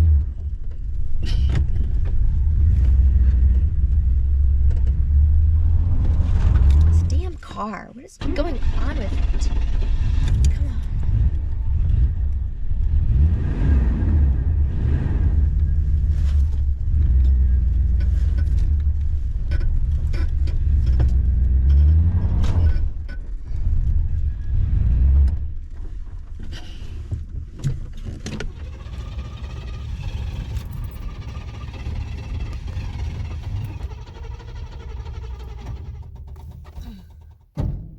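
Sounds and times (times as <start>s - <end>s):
car engine revving: 1.8s - 7.5s, 8.2s - 25.8s, 28.2s - 37.6s.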